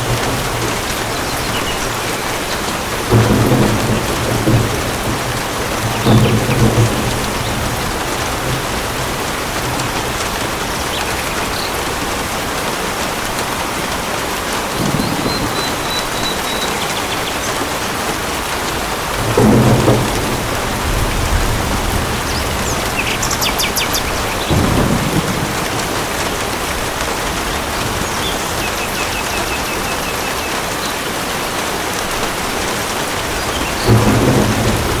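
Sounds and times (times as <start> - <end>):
thunder rumbles: 0.0 - 30.8, 31.9 - 35.0
heavy rain: 0.0 - 35.0.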